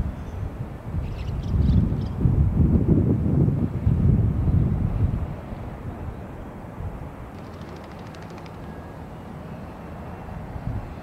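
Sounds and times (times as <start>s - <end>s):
wind buffeting microphone: 0.0s - 9.0s, 10.0s - 11.0s.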